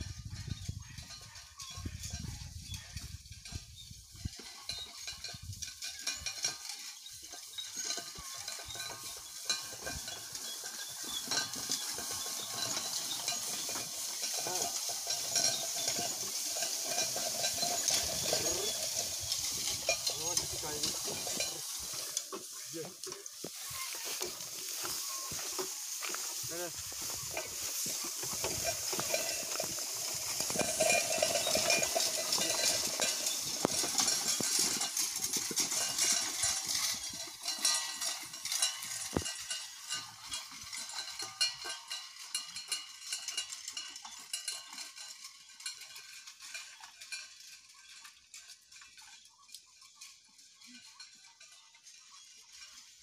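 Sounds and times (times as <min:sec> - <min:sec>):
harness chains rattling: 0:00.0 - 0:53.0
hay rake tines clinking: 0:00.0 - 0:53.0.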